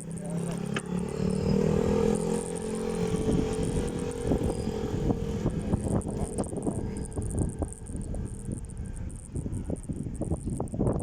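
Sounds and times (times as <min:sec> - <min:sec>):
high insect buzz: 0:00.0 - 0:10.9
vehicle engine droning: 0:00.0 - 0:11.0.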